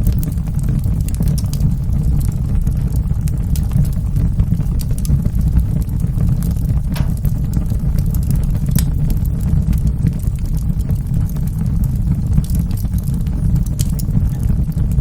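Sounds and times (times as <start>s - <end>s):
fire burning: 0.0s - 15.0s
fire crackles and pops: 0.0s - 15.0s.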